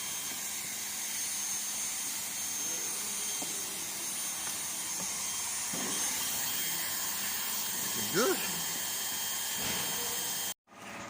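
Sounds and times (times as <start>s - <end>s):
heat gun blowing hiss: 0.0s - 10.6s.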